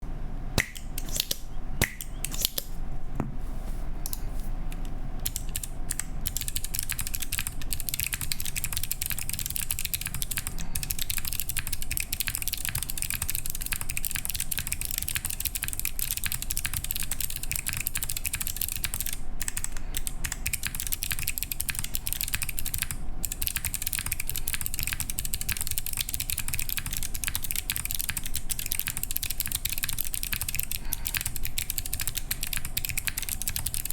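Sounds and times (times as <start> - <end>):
clicky mechanical keyboard typing: 0.6 - 2.7, 4.7 - 33.9.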